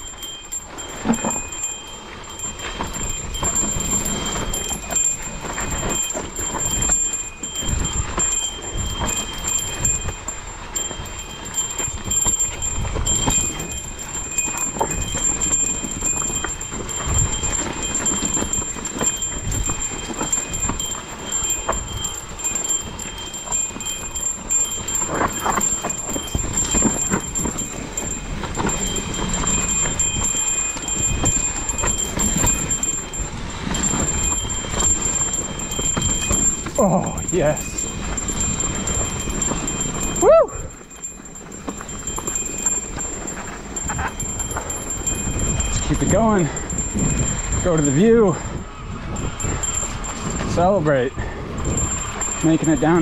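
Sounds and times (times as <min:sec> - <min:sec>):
bike knocking and clattering: 0:00.0 - 0:53.0
tyres rumbling over dirt: 0:00.0 - 0:53.0.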